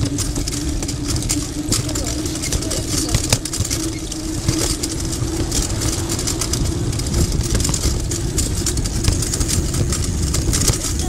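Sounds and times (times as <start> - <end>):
bicycle rumble on paving: 0.0 - 11.0
bike clicks and rattles: 0.0 - 11.0
steady hum: 0.0 - 11.0.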